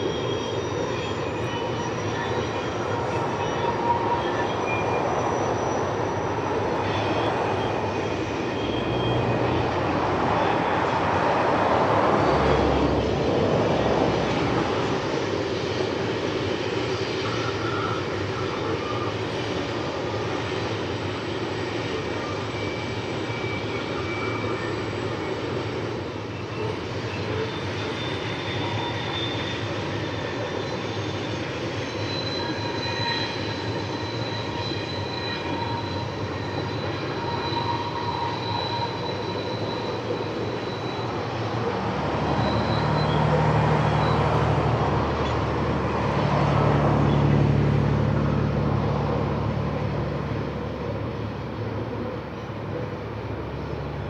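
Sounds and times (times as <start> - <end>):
freight train rumbling by: 0.0 - 54.0
high wheel squeals: 0.0 - 54.0.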